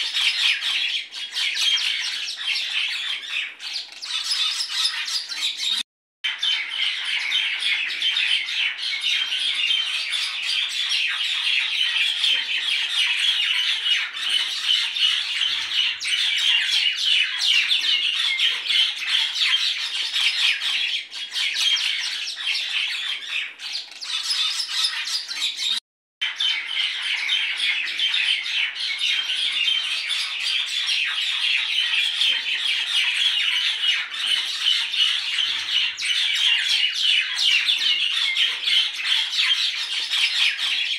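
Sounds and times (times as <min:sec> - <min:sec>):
birds chirping and squawking: 0:00.0 - 0:40.9.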